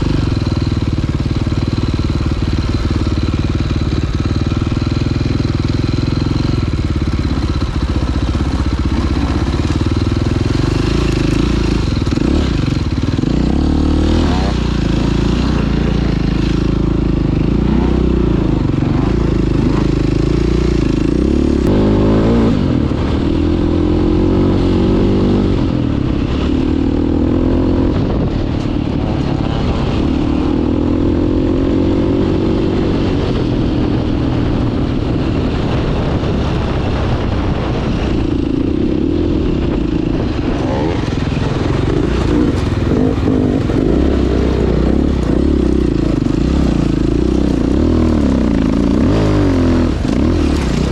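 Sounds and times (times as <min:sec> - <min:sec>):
dirt bike engine: 0:00.0 - 0:50.9.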